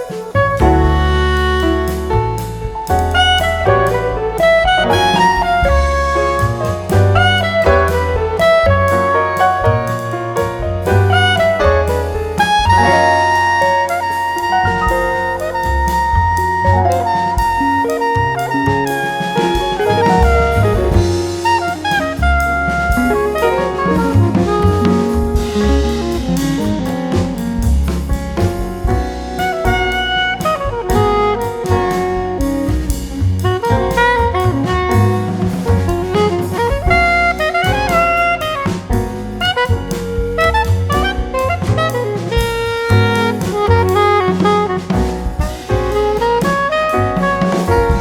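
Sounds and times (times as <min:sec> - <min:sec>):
jazz music: 0:00.0 - 0:48.0
saxophone melody over drums: 0:00.0 - 0:48.0.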